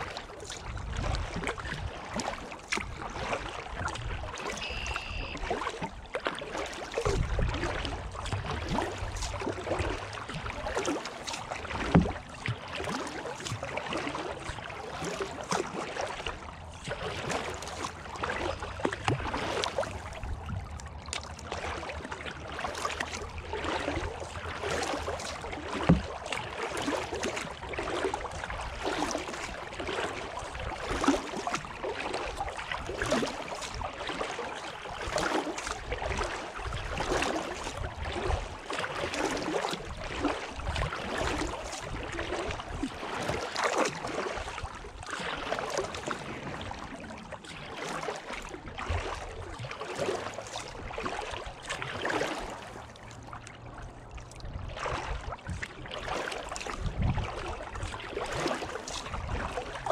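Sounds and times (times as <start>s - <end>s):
paddle strokes through water: 0.0s - 59.9s.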